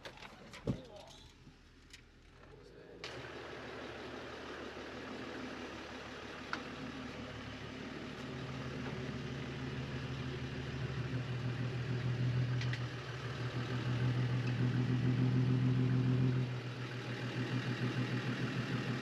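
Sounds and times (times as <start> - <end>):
diesel engine idling: 3.1 - 19.0.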